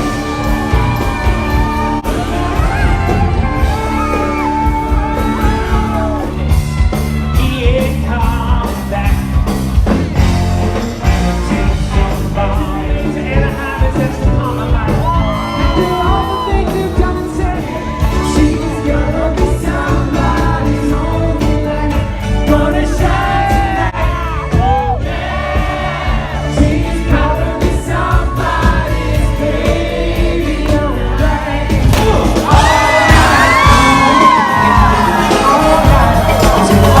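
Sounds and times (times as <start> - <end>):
lead singer singing: 0.0 - 37.0
live rock band playing: 0.0 - 37.0.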